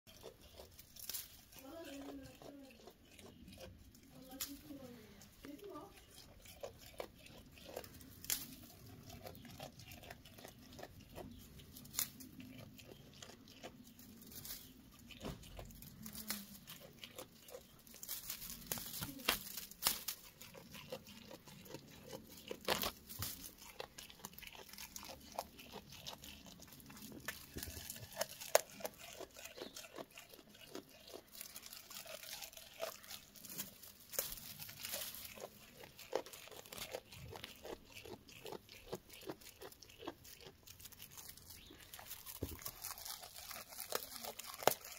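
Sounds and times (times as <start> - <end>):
goat chewing leaves: 0.1 - 44.9
leaves rustling: 0.2 - 2.8, 3.8 - 10.5, 11.2 - 13.2, 13.9 - 38.4, 40.2 - 44.9.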